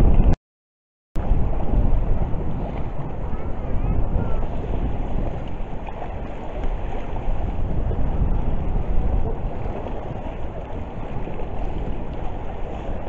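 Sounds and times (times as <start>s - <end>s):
wind buffeting microphone: 0.0s - 0.4s, 1.2s - 13.0s.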